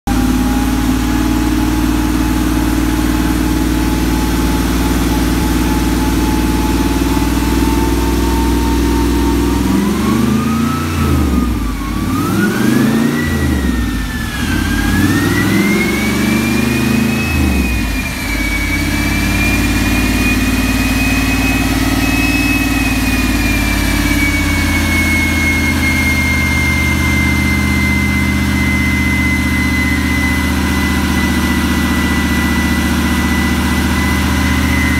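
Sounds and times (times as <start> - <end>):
car engine revving: 0.1 - 34.9
turbo whine: 0.1 - 34.9.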